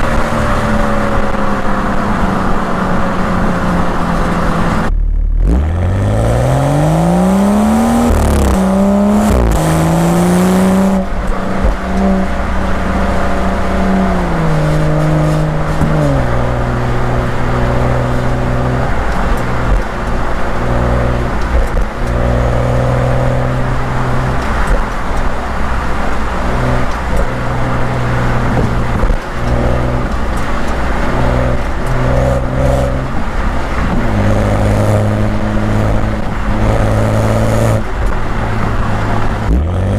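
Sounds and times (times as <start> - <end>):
car exhaust accelerating hard: 0.0 - 39.9.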